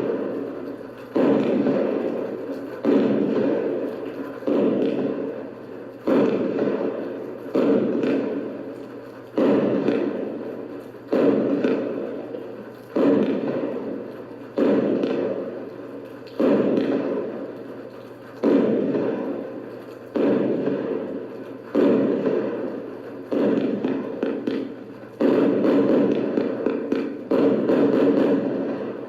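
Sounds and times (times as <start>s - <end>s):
fireworks booming: 0.0s - 29.0s
fireworks crackling: 0.0s - 29.0s.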